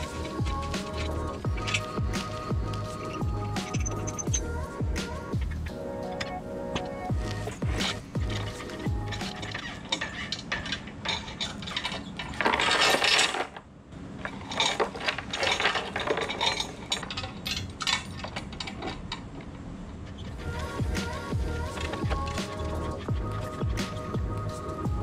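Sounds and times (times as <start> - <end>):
chain clinking and rattling on metal: 0.0 - 25.0.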